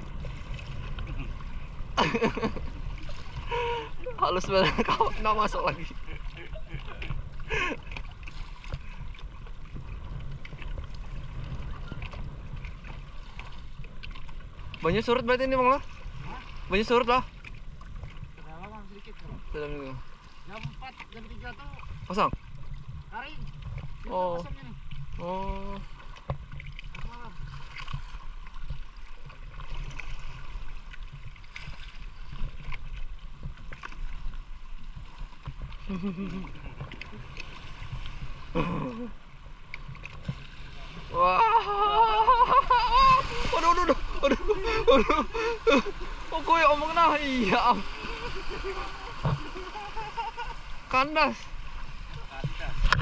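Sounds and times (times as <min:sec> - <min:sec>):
boat engine low rumble: 0:00.0 - 0:53.0.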